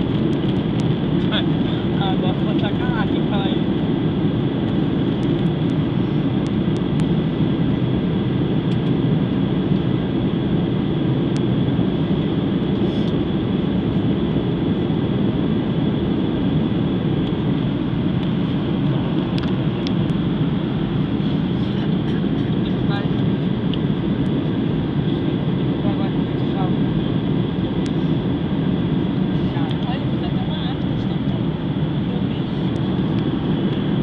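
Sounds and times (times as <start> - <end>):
airliner cabin engine noise: 0.0 - 34.0.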